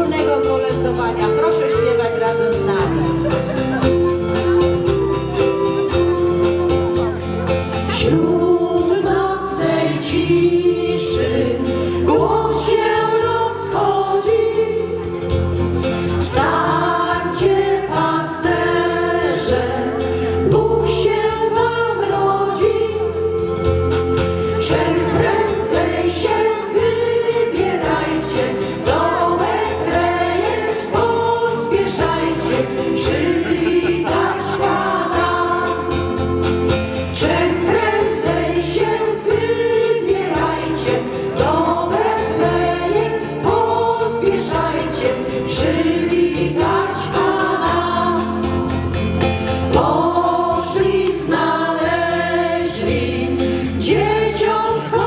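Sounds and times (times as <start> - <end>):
instrumental accompaniment with bass: 0.0 - 55.0
group singing a carol: 7.8 - 55.0.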